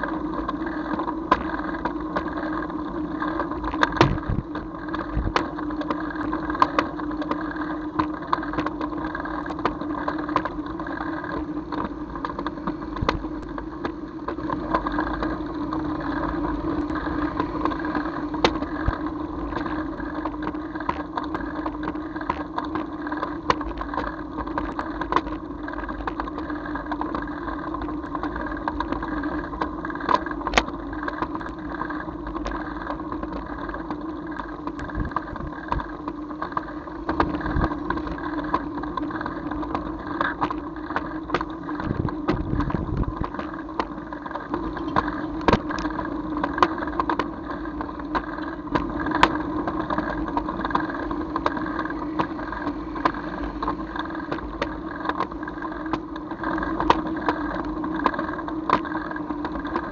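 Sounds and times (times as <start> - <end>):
vehicle running hum: 0.0 - 59.9
sharp clicks and knocks: 0.4 - 2.5, 3.2 - 59.9.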